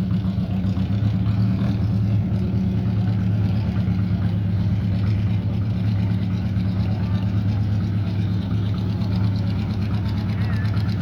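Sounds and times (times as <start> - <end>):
race car engine running steadily: 0.0 - 11.0.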